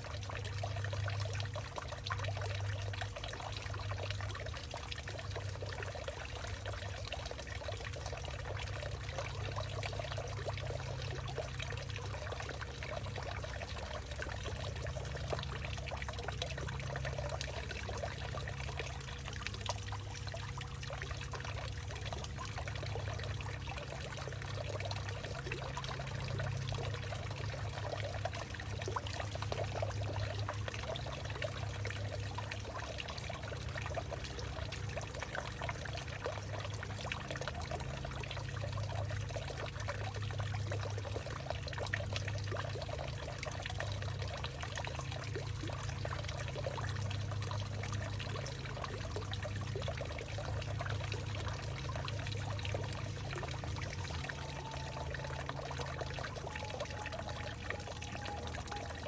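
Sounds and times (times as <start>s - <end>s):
water trickling and pouring: 0.0s - 59.0s
water dripping: 0.2s - 59.0s.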